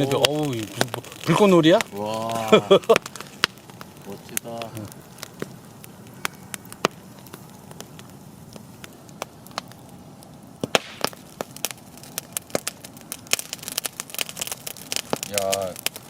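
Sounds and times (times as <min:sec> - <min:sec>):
campfire crackling and popping: 0:00.0 - 0:16.0
low rush of flame: 0:00.0 - 0:16.0.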